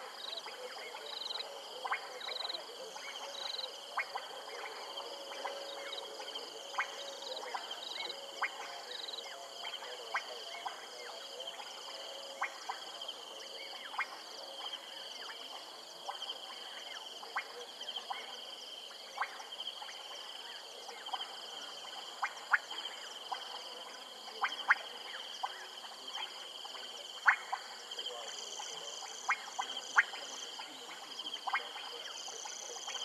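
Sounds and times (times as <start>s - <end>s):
frogs clicking calls: 0.0s - 33.0s.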